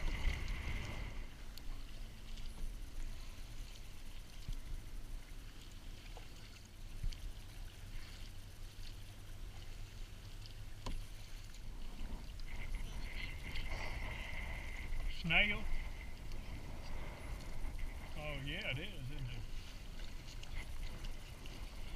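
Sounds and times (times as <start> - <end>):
low rumble: 0.0 - 6.0, 8.7 - 21.9
water lapping around hull: 0.0 - 21.9.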